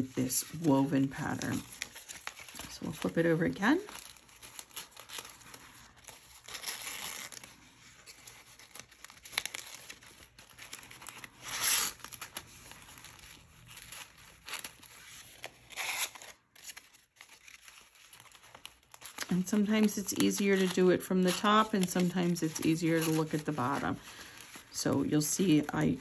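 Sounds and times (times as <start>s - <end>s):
paper rustling and crinkling: 0.0s - 26.0s.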